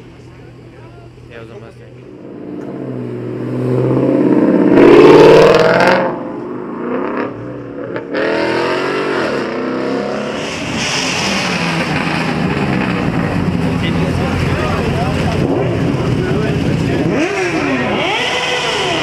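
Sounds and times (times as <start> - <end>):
another car engine revving: 2.0 - 19.0
car engine revving past: 2.1 - 19.0.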